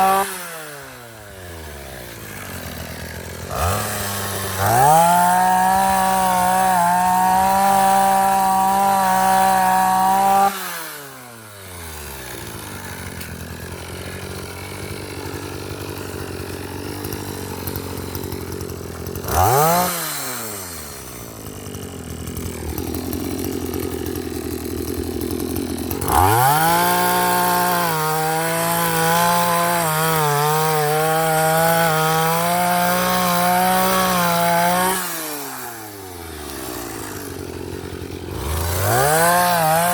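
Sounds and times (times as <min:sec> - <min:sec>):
earth auger petrol engine revving: 0:00.0 - 0:39.9.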